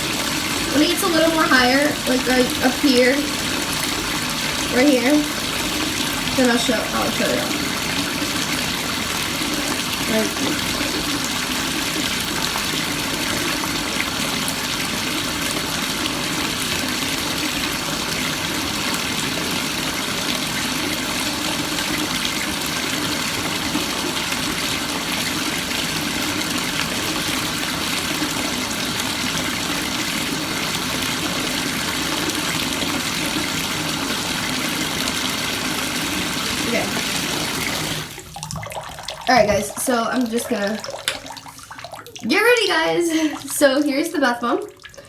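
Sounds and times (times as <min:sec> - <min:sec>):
faucet water running into tub: 0:00.0 - 0:45.0.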